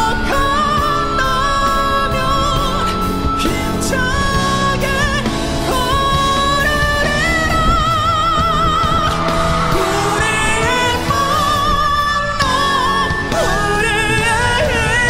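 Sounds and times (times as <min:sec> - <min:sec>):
band accompaniment: 0:00.0 - 0:15.0
person singing with vibrato: 0:00.0 - 0:15.0.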